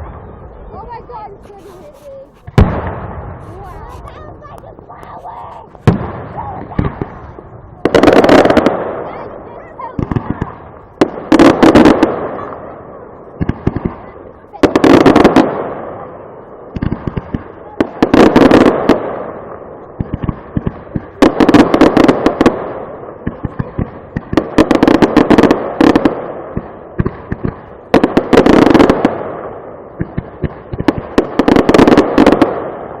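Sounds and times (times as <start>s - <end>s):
fireworks bangs and crackle: 0.0s - 33.0s.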